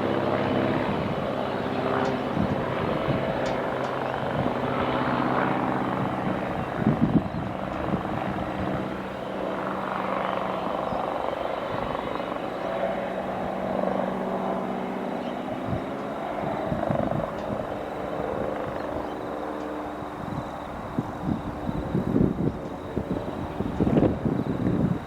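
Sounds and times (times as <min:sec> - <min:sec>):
helicopter rotor humming: 0:00.0 - 0:25.0.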